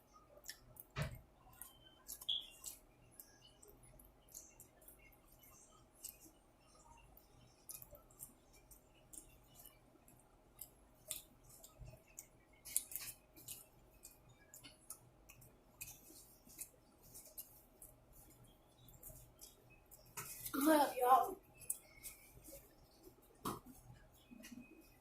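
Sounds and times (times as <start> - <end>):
person eating with crunches: 0.2 - 20.5.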